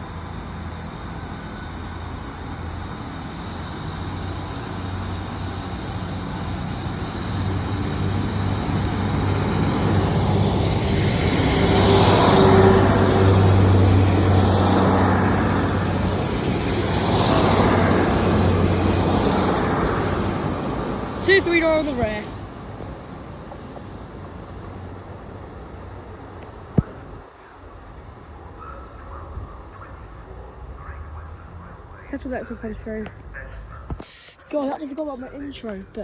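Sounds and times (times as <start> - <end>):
diesel train engines droning: 0.0 - 36.0.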